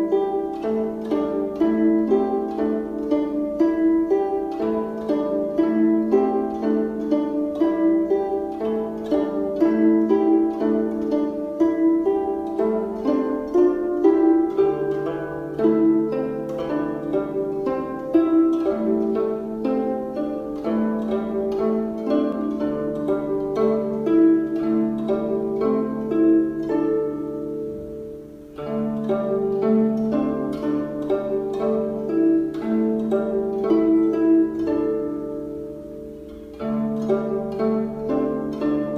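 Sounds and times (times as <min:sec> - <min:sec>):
plucked string notes: 0:00.0 - 0:38.9.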